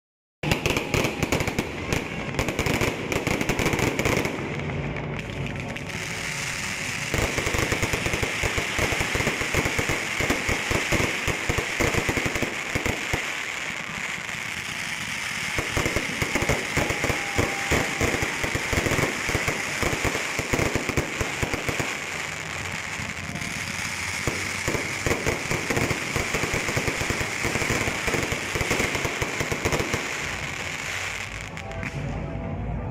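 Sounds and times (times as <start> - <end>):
fireworks bangs and crackling: 0.4 - 32.9.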